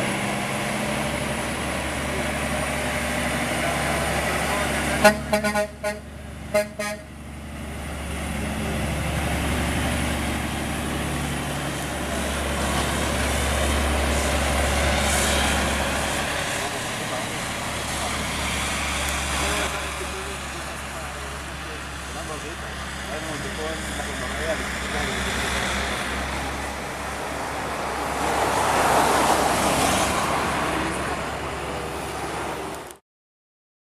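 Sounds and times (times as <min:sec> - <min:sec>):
diesel truck engine drone: 0:00.0 - 0:33.0
tyre and road noise: 0:00.0 - 0:33.0.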